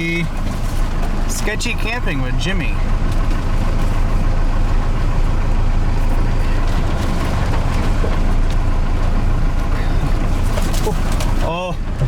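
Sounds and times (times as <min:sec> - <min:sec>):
diesel truck engine drone: 0:00.0 - 0:12.0
road noise: 0:00.0 - 0:12.0.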